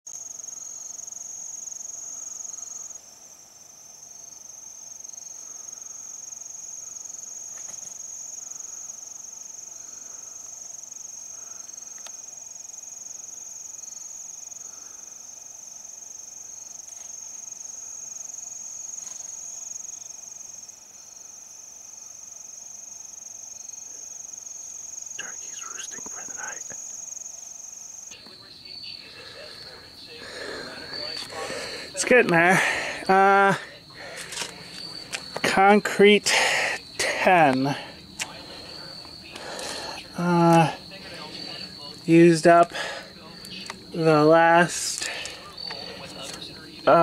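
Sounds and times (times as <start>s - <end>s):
insect chorus drone: 0.1s - 47.0s
short insect chirps: 0.1s - 47.0s.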